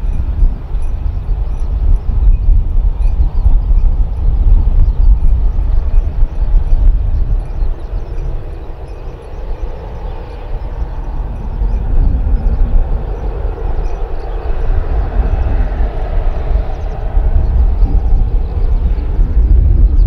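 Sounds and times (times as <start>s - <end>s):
jet engines rumbling: 0.0s - 20.0s
wind buffeting microphone: 0.0s - 20.0s.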